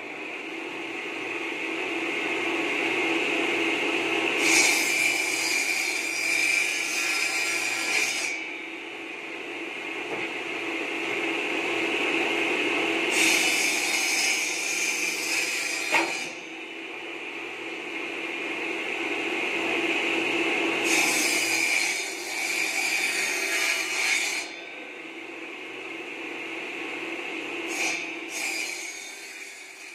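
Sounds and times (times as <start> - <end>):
circular saw cutting bamboo: 1.0 - 9.5, 10.5 - 25.3, 26.1 - 29.9.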